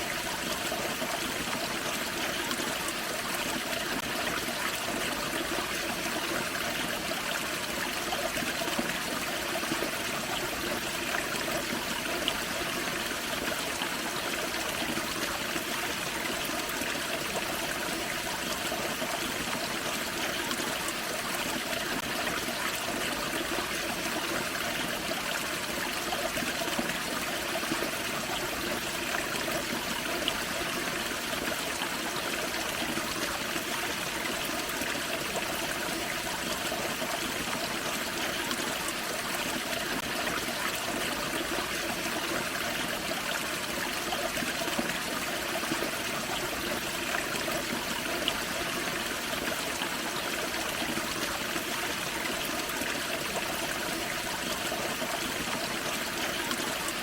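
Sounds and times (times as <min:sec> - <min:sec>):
creek running over waterfall: 0:00.0 - 0:57.0.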